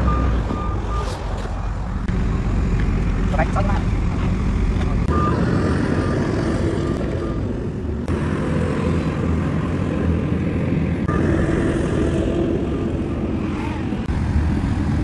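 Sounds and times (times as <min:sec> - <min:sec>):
diesel truck engines running: 0:00.0 - 0:15.0.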